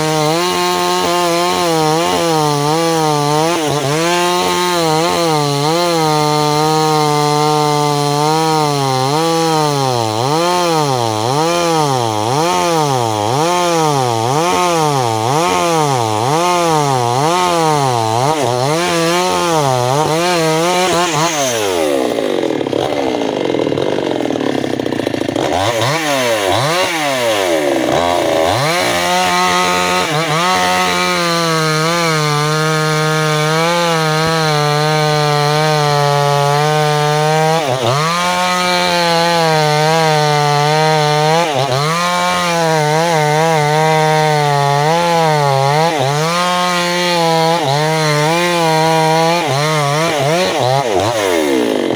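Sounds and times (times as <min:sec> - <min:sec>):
chainsaw cutting tree trunk: 0:00.0 - 0:51.9.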